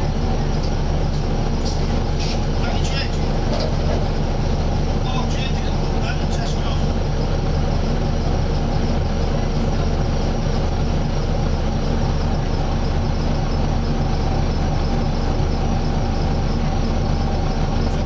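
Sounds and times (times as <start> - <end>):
bus diesel engine drone: 0.0 - 18.0
engine cooling fan whirring: 0.0 - 18.0
road noise: 0.0 - 18.0.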